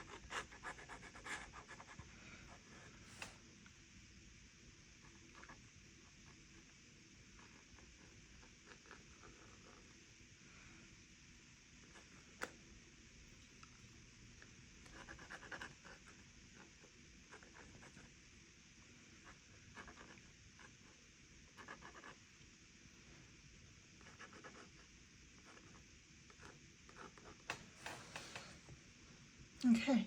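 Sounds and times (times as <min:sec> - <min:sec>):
room hiss: 0:00.0 - 0:30.0.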